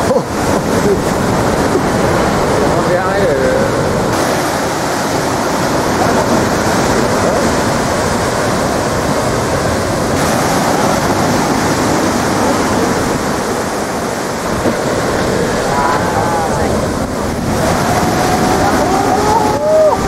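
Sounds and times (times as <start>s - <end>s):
surf breaking on shore: 0.0s - 20.0s.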